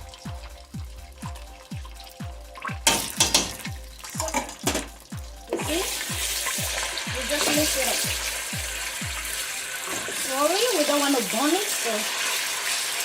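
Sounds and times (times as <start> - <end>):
background music with thudding beat: 0.0 - 11.5
tomato paste sizzling in hot oil: 0.0 - 13.0.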